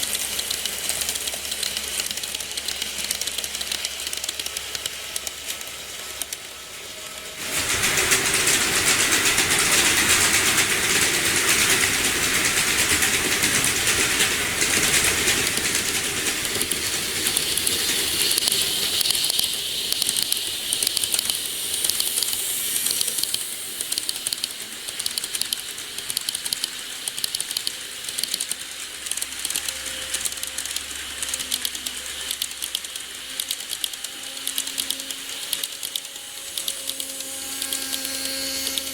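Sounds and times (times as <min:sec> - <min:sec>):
model train wheels clicking: 0:00.0 - 0:38.9.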